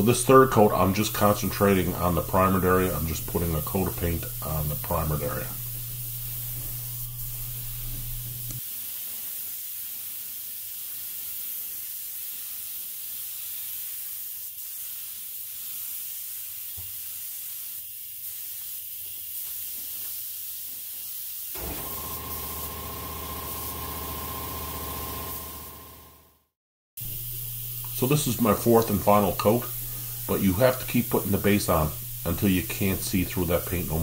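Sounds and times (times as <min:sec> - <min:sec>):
spray gun hissing: 0:00.0 - 0:26.1, 0:27.0 - 0:34.0.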